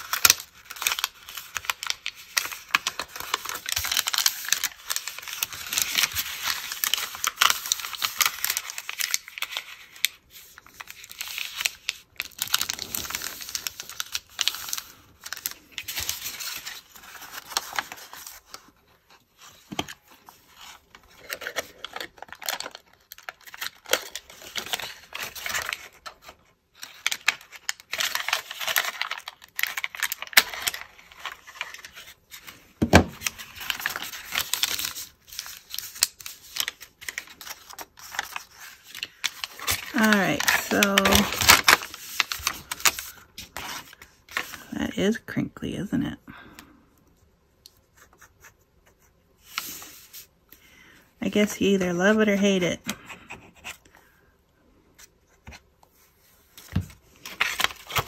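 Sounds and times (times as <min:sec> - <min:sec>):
tissue paper crinkling: 0:00.0 - 0:45.2, 0:55.0 - 0:58.0.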